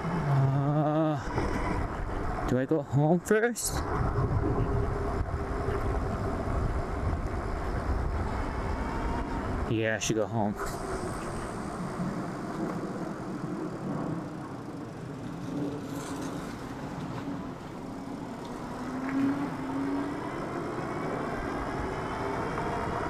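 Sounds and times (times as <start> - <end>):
wind and tyre noise: 0.0 - 23.0.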